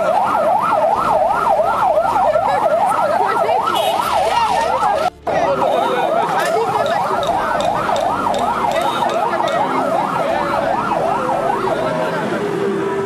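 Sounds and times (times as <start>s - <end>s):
police siren yelping: 0.0s - 13.0s.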